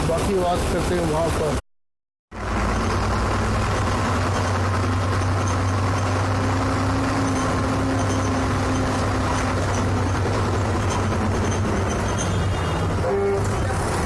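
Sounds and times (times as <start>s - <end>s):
bus engine humming: 2.4s - 14.0s.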